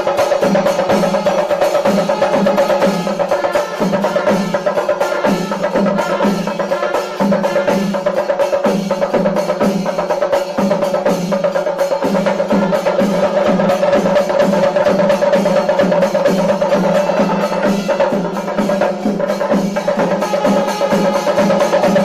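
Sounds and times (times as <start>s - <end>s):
fast steady drumming: 0.0s - 22.0s.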